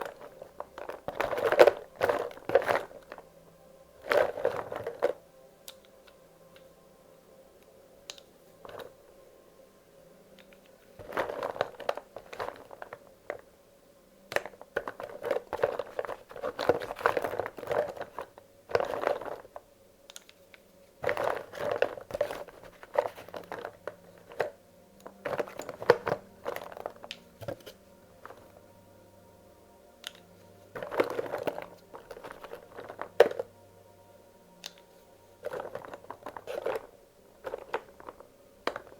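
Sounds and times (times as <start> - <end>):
wax crayons clicking and rattling: 0.0 - 3.3, 4.0 - 6.7, 10.4 - 13.5, 14.3 - 28.6, 30.0 - 33.6, 34.6 - 38.9.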